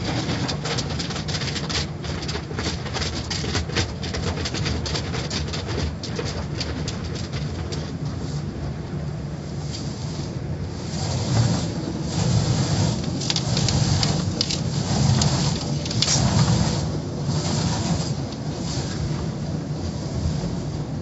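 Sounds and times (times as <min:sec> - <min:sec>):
car wash machinery rumble: 0:00.0 - 0:21.0.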